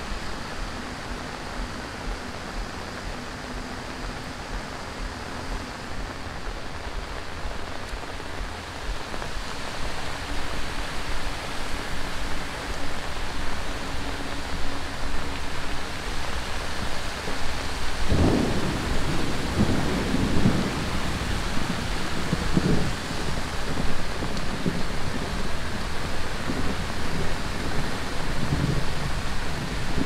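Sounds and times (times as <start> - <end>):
heavy rain pouring: 0.0 - 30.0
thunder rumbling: 0.0 - 30.0.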